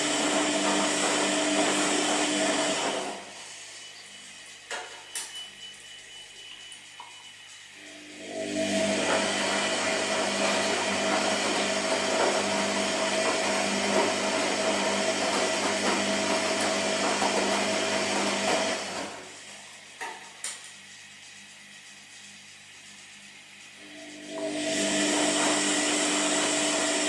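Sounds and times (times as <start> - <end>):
washing machine motor whirring: 0.0 - 27.0.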